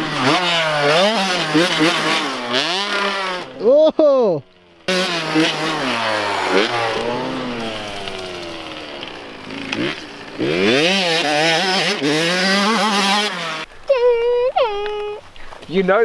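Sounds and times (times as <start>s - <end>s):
dirt bike engine revving: 0.0s - 13.7s.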